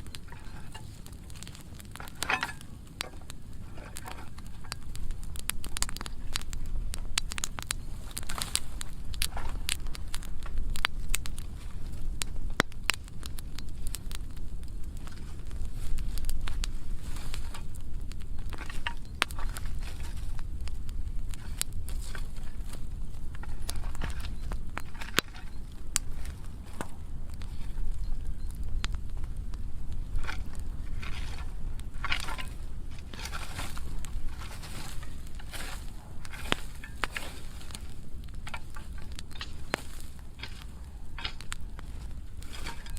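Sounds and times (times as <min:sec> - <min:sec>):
fire low rumble: 0:00.0 - 0:42.9
wood fire crackling and popping: 0:00.0 - 0:42.9.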